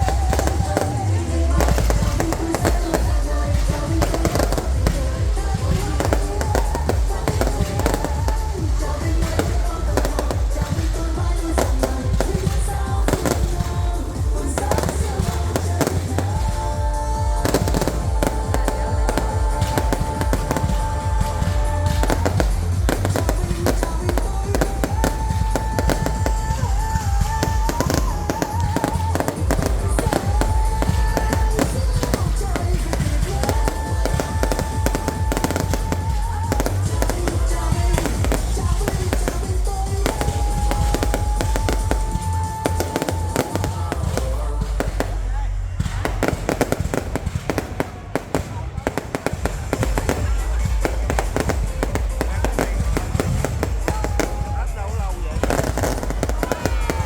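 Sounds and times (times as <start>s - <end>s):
deep rumble of booms: 0.0s - 57.0s
fireworks bursting: 0.0s - 57.0s
music: 0.0s - 57.0s.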